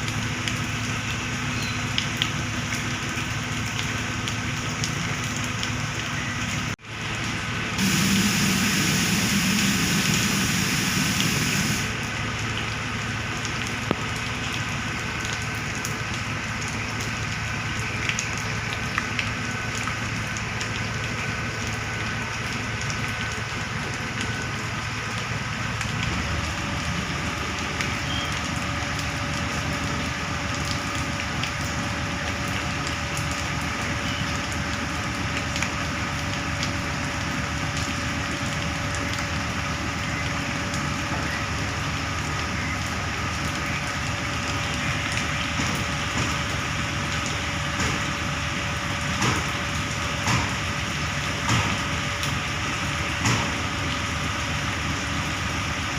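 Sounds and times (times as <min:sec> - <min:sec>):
diesel truck engines running: 0:00.0 - 0:55.9.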